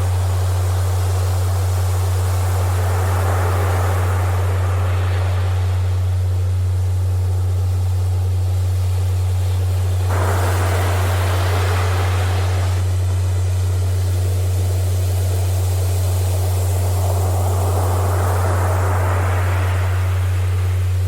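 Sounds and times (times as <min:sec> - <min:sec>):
ocean surf: 0:00.0 - 0:07.7, 0:09.5 - 0:13.7, 0:14.8 - 0:21.0.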